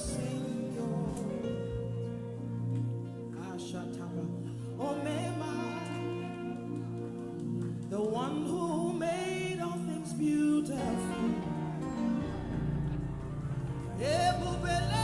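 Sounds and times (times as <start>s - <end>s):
sustained chords: 0.0s - 15.0s.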